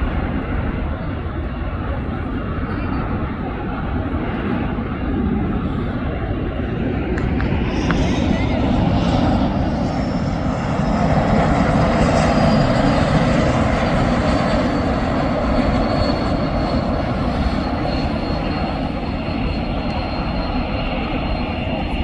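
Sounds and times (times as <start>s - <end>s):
high engine whine: 0.0s - 22.0s
jet engines passing: 0.0s - 22.0s.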